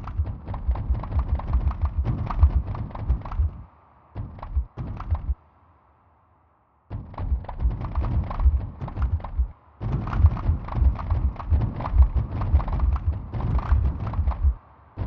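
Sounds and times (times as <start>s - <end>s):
low thuds with sharp clicks: 0.0s - 5.4s, 6.9s - 15.0s.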